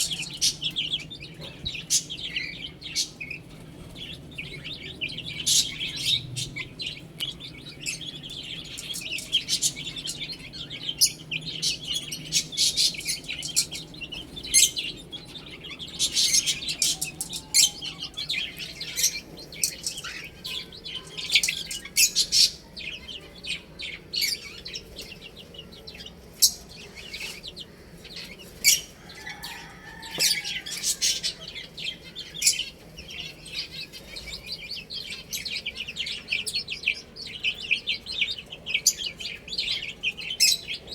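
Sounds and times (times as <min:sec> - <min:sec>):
chicks chirping: 0:00.0 - 0:40.9.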